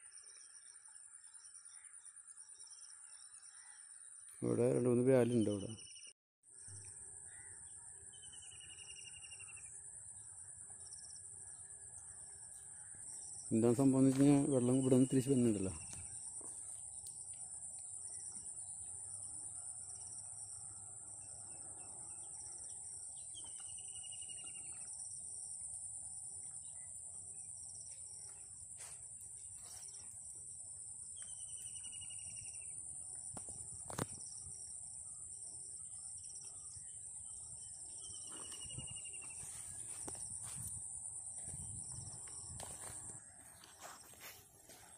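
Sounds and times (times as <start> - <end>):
insect drone: 0.0 - 4.4, 5.8 - 44.9.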